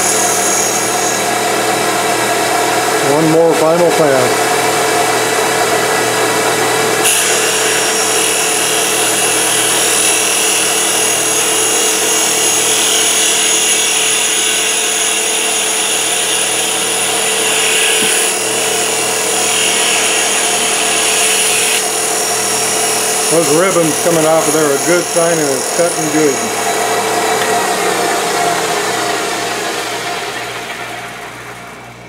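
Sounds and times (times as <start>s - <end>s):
hiss of cutter shaving wood: 0.0s - 4.4s, 7.0s - 31.8s
lathe motor hum: 0.0s - 32.0s.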